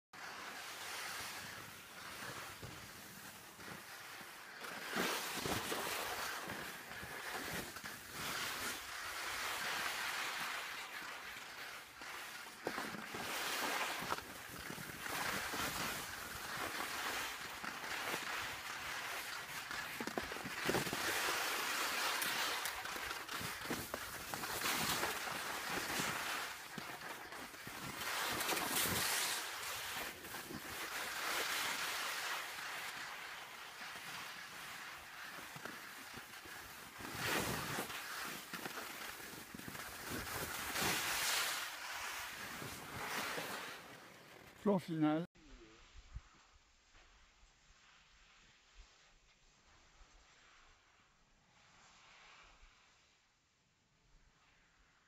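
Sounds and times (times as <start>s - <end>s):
skis scraping over snow: 0.2s - 45.2s.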